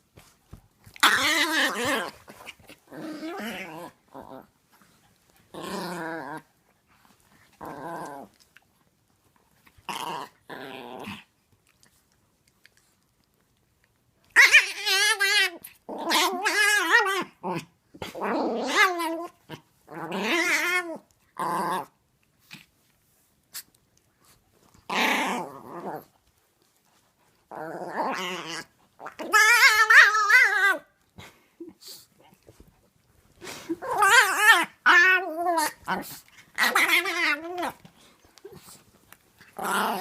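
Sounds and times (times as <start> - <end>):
small dog play growling: 0.2 - 13.4, 14.3 - 22.9, 23.6 - 40.0.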